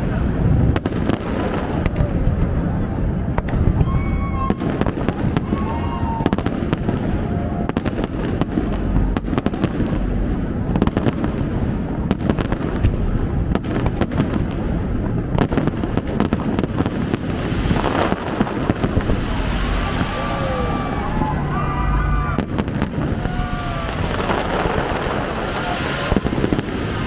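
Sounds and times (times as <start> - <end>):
fireworks bangs and crackles: 0.0 - 27.0
low booming: 0.0 - 27.0.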